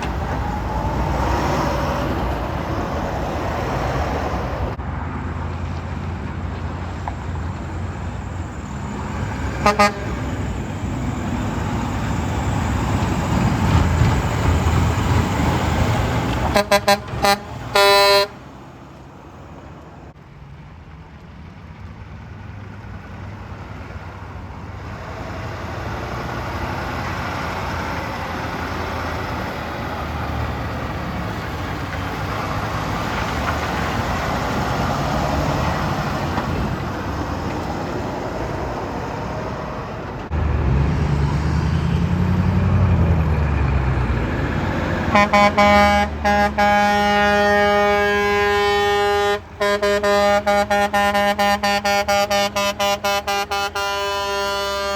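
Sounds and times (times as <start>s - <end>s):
trucks passing on road: 0.0s - 54.9s.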